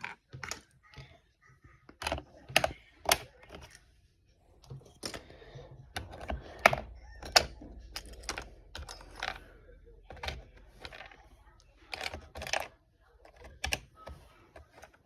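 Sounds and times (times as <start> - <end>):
keycaps clicking and snapping off: 1.9 - 3.8, 4.7 - 15.0.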